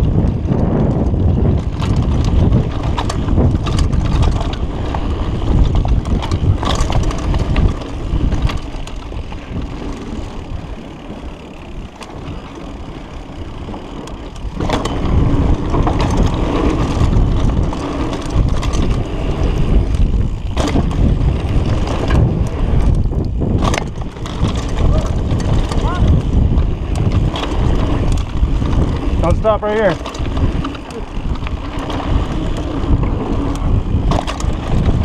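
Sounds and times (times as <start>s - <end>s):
bike clattering over bumps: 0.0s - 35.0s
tyres rolling over dirt: 0.0s - 35.0s
wind rushing over microphone: 0.0s - 35.0s.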